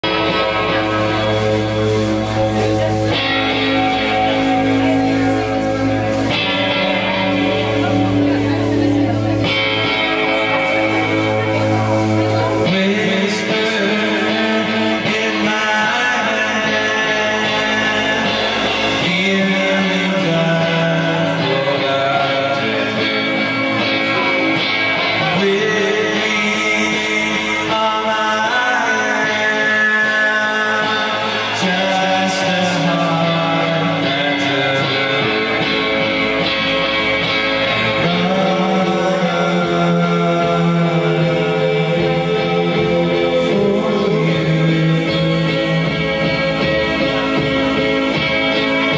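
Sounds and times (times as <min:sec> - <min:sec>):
guitar chords ringing: 0:00.0 - 0:48.9
person singing: 0:00.0 - 0:48.9
rock band playing live: 0:00.0 - 0:48.9.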